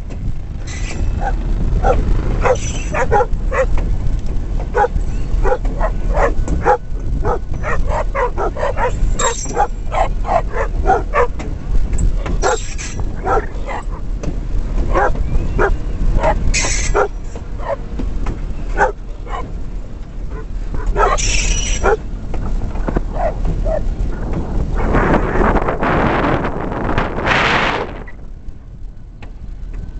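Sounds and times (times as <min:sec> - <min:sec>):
diesel locomotive rumble: 0:00.0 - 0:29.9
dogs barking and yipping: 0:00.6 - 0:25.6.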